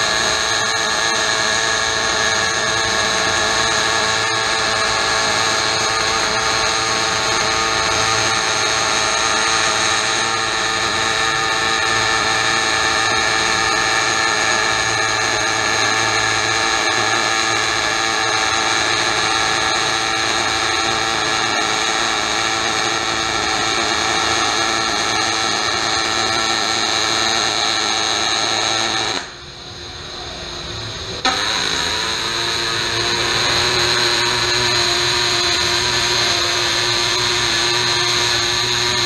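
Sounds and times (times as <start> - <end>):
welding arc buzzing: 0.0 - 39.0.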